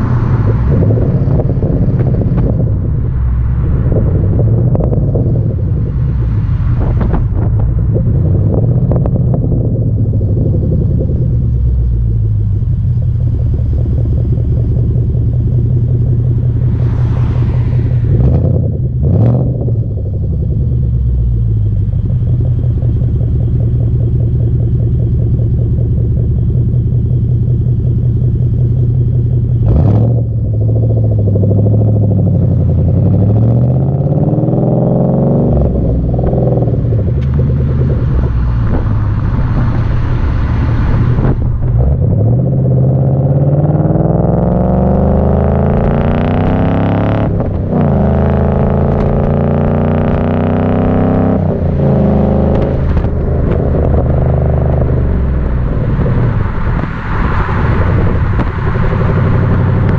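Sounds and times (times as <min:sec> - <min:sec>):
car accelerating away: 0:00.0 - 0:59.9
car engine idling and revving: 0:00.0 - 0:59.9.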